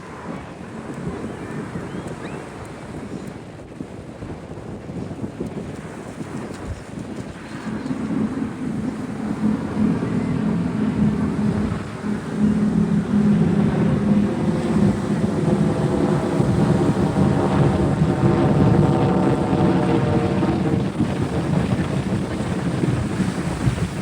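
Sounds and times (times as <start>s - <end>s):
propeller airplane flying overhead: 0.0s - 24.0s.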